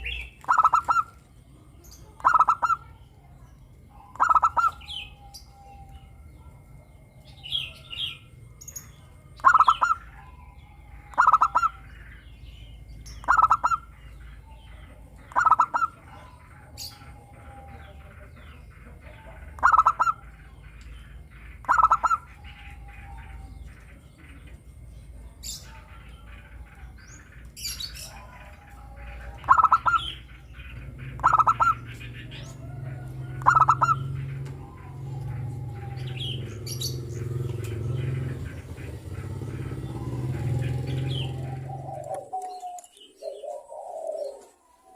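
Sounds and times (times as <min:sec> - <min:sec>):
dove cooing: 0:00.0 - 0:44.9
small birds chirping: 0:00.0 - 0:44.9.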